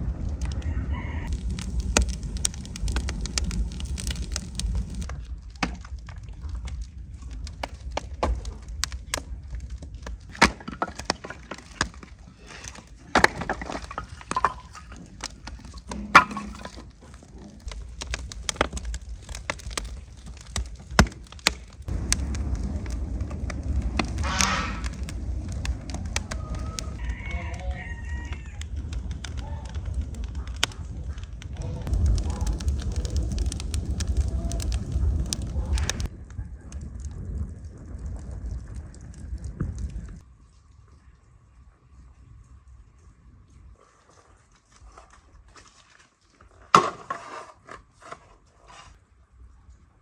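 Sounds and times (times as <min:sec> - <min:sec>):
low rush of flames: 0:00.0 - 0:44.9
firewood crackling and popping: 0:00.0 - 0:47.0.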